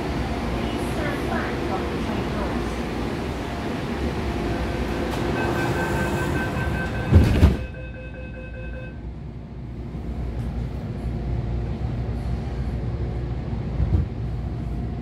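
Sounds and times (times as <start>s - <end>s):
low hum inside train car: 0.0s - 15.0s
train rolling noise: 0.0s - 15.0s
train whine: 0.0s - 15.0s.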